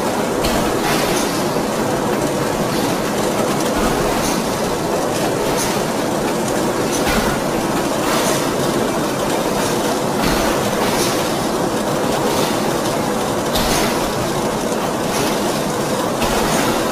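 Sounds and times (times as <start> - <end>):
ring rolling mill machine noise: 0.0 - 16.9.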